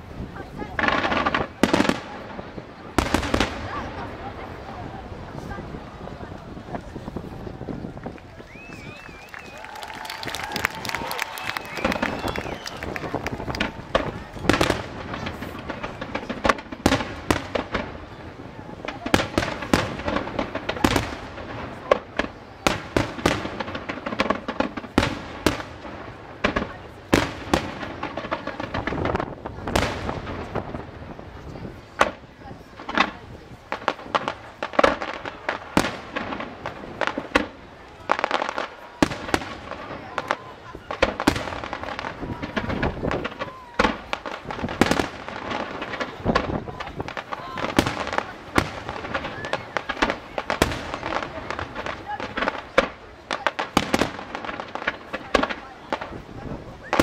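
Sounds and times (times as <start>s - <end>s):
firework crackle: 0.0s - 57.0s.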